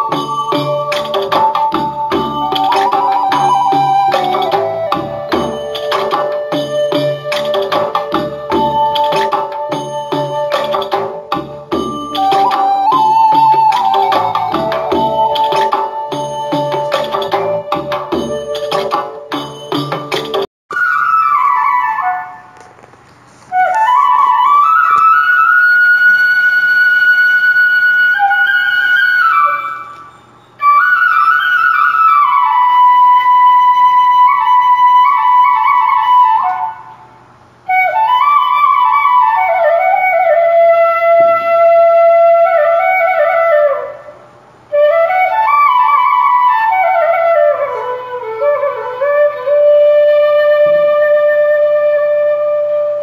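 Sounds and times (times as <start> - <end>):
solo flute playing: 0.0 - 19.7, 20.7 - 22.7, 23.4 - 37.1, 37.7 - 53.0.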